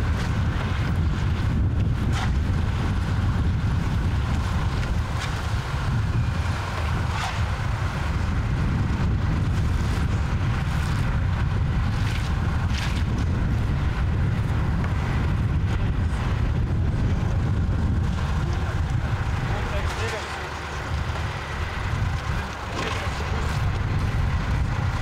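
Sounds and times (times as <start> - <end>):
machinery rumble: 0.0 - 25.0
wind rumble: 0.0 - 25.0.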